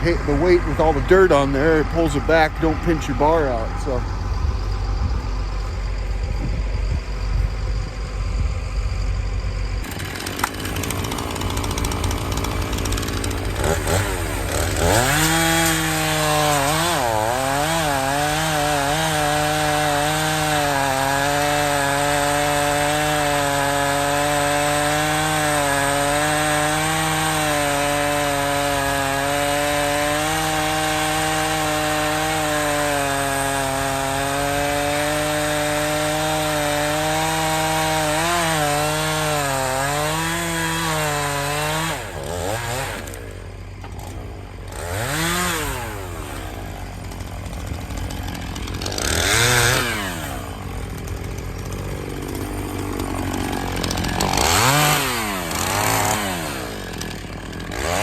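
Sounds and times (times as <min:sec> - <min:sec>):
chainsaw cutting log: 0:00.0 - 0:07.3, 0:09.7 - 0:58.0.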